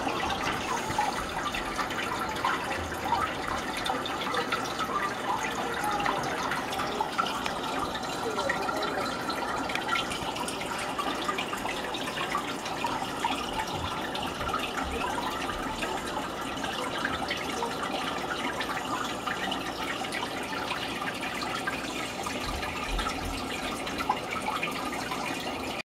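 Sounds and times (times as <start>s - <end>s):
water trickling and bubbling: 0.0s - 25.8s.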